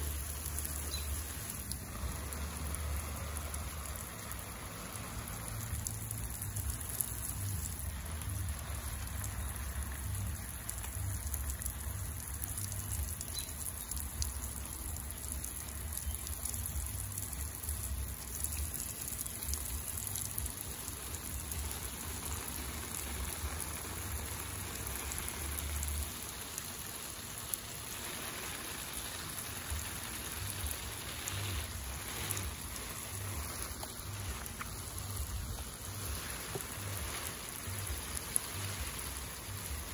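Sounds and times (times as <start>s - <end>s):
water falling on leaves and soil: 0.0s - 39.9s.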